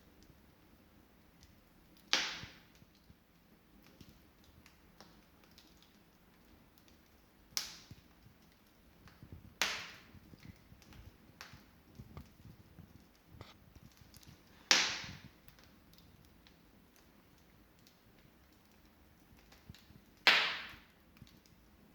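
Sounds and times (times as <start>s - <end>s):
wood fire crackling: 0.0s - 21.9s
loud fire pops: 1.4s - 3.2s, 3.8s - 21.7s.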